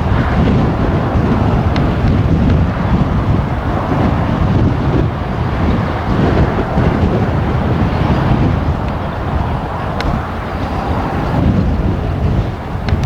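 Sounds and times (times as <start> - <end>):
jet airliner engine landing: 0.0 - 13.0
wind buffeting microphone: 0.0 - 13.0.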